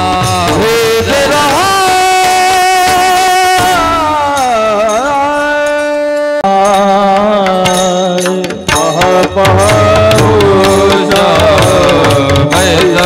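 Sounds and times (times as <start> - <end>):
person singing devotional song: 0.0 - 13.0.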